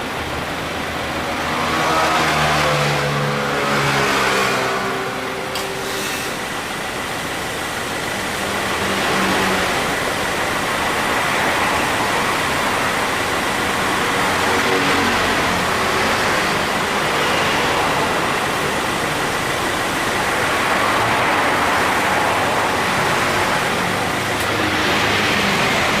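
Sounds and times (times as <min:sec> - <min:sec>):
engine and fan noise: 0:00.0 - 0:26.0.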